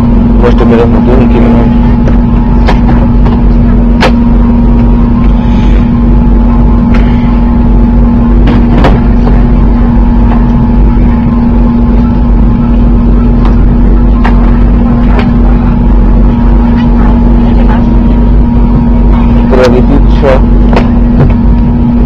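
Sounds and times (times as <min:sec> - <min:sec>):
aircraft cabin ventilation hum: 0:00.0 - 0:22.0.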